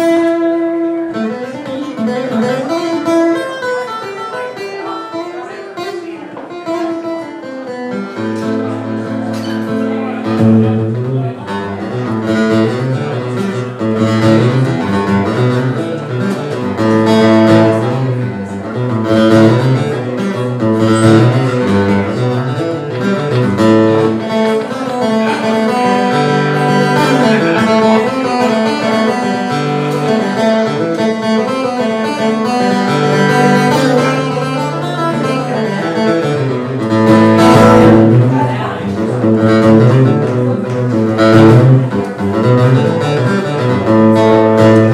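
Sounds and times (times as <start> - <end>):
acoustic guitar picking: 0.0 - 44.9.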